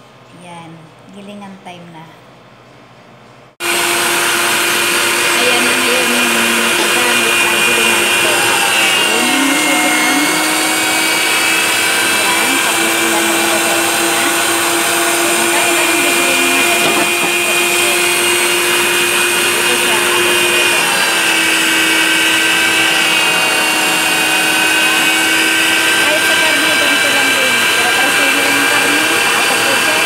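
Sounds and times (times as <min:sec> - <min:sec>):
electric meat grinder humming: 0:03.6 - 0:30.0.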